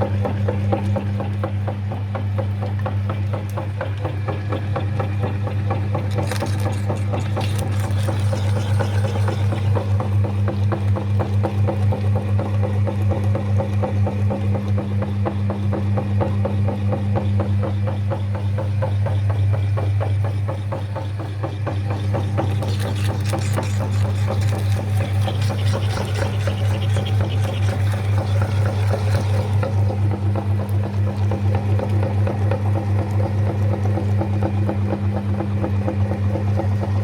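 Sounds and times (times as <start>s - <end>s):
meat grinder motor humming: 0.0s - 37.0s.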